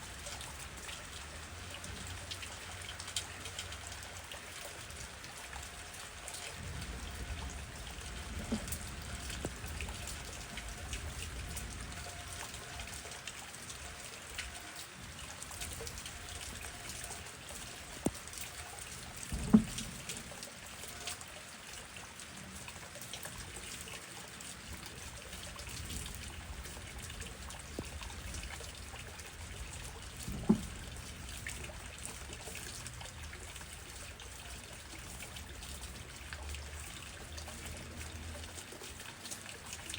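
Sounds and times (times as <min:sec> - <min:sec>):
steady rain: 0:00.0 - 0:39.9
water trickling and dripping: 0:00.0 - 0:39.9.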